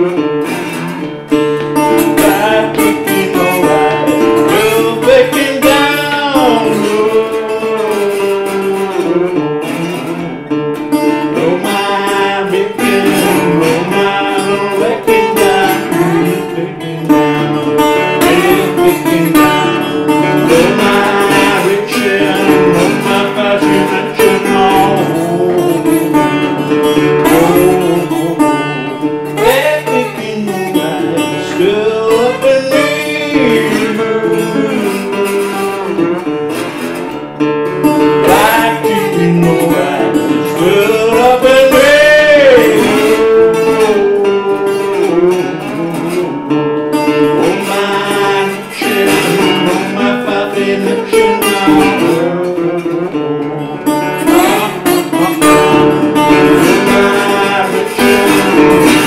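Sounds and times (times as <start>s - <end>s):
man singing: 0.0s - 0.6s, 1.3s - 36.9s, 37.9s - 59.0s
resonator guitar picking: 0.0s - 59.0s.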